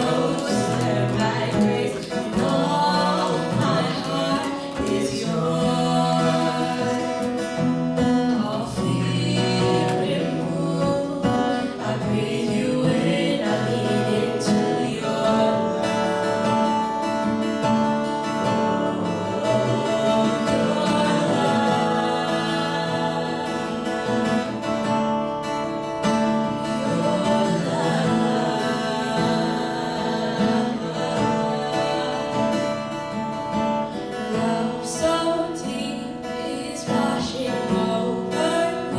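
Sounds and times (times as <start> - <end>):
person singing: 0.0 - 16.7, 18.3 - 24.8, 26.5 - 38.9
plucked and strummed guitar: 0.0 - 38.9.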